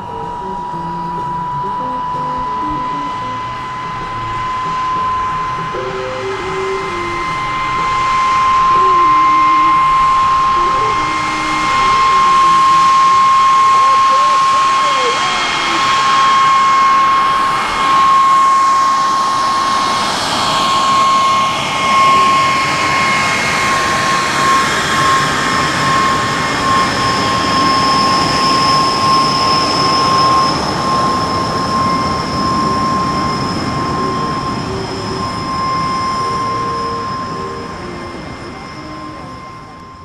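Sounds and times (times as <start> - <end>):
jet engine whine: 0.0 - 40.0.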